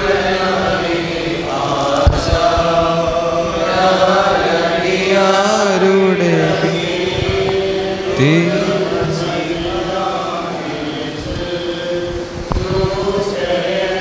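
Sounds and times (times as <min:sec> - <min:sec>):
voices chanting a hymn: 0:00.0 - 0:14.0.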